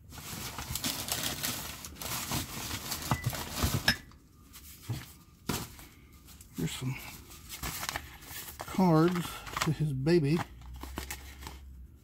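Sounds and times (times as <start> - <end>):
rustling and clatter of items: 0.0 - 11.7.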